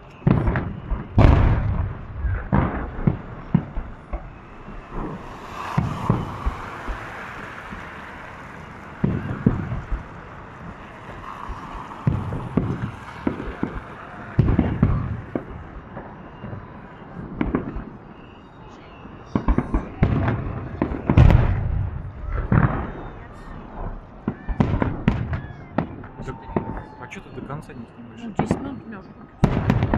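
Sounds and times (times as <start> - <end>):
fireworks booming: 0.0 - 29.9.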